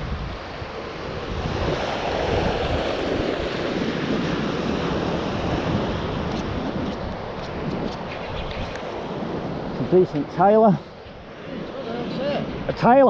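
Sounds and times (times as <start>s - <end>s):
wind on microphone: 0.0s - 12.8s
flowing water: 0.0s - 13.0s.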